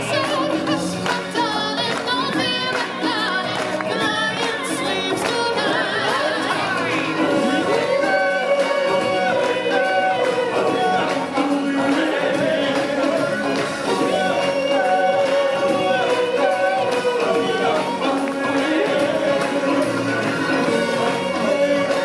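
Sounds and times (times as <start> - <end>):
music with singing: 0.0 - 22.0.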